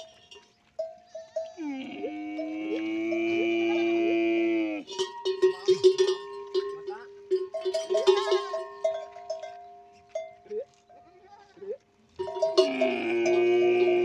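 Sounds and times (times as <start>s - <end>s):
camel bells clanking and ringing: 0.0s - 3.6s, 4.8s - 11.3s, 12.1s - 14.0s.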